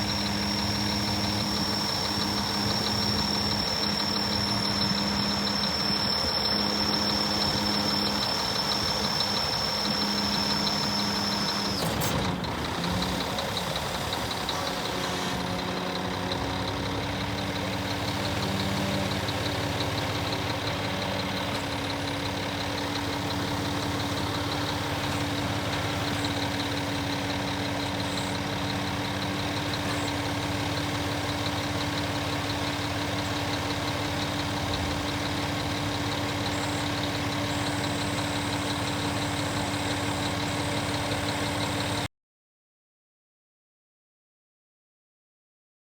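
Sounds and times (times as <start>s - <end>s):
diesel truck engine idling: 0.0s - 42.1s.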